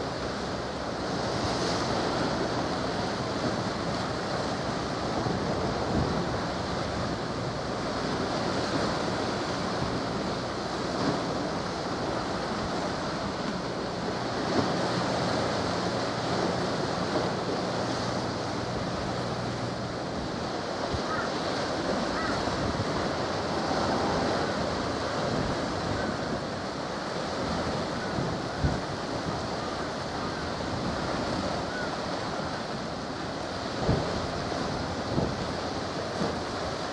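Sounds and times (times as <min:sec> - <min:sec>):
small waves washing: 0:00.0 - 0:36.9
wind over microphone: 0:00.0 - 0:36.9.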